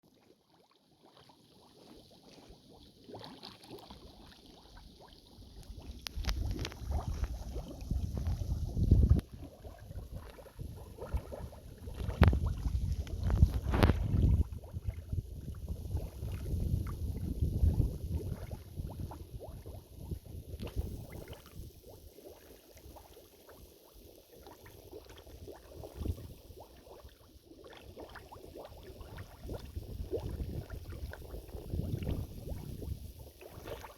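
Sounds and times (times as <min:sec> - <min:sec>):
mud gurgling and bubbling: 0:00.1 - 0:33.9.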